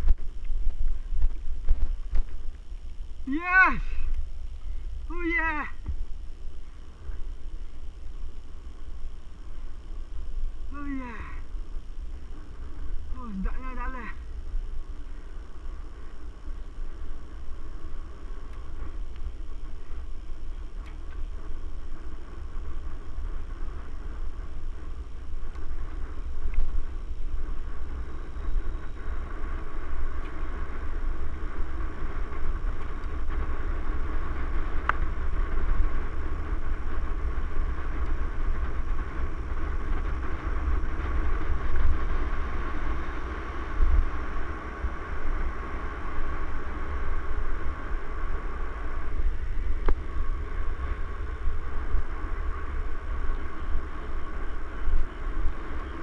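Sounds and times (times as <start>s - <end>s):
bike tyres rolling hiss: 0.0s - 56.0s
wind rumble on microphone: 0.0s - 56.0s.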